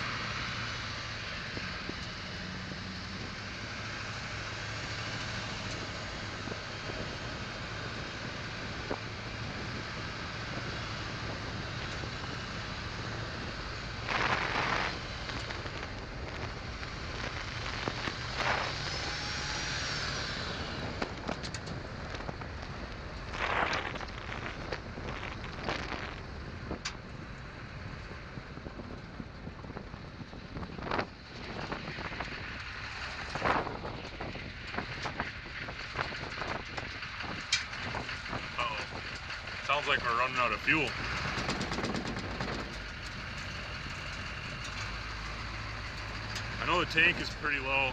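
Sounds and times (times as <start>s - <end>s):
diesel engine hum in cab: 0.0s - 47.9s
road noise: 0.0s - 47.9s.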